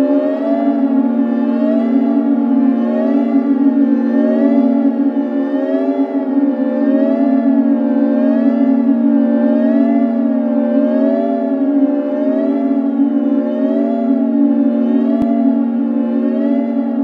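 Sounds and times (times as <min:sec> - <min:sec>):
synthesizer drones: 0:00.0 - 0:17.0.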